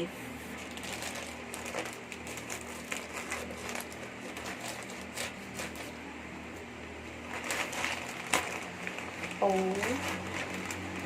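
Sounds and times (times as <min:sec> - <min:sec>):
plastic wrapping crinkling: 0:00.0 - 0:11.0
steady low hum: 0:00.0 - 0:11.0.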